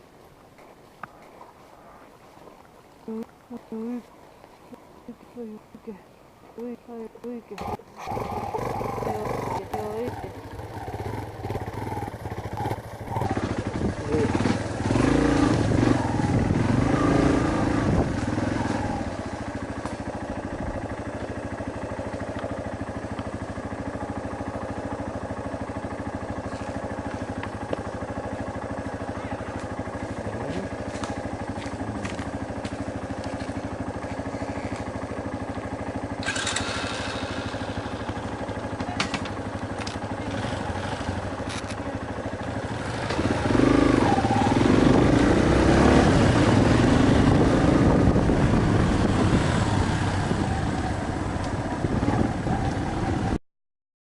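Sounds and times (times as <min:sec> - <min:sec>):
motorcycle engine running: 0:06.6 - 0:53.4.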